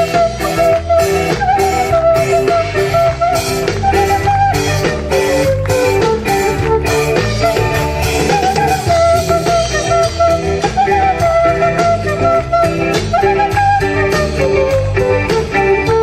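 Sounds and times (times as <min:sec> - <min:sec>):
guitar melody: 0:00.0 - 0:16.0
latin dance band instrumental: 0:00.0 - 0:16.0
percussion beat: 0:00.0 - 0:16.0.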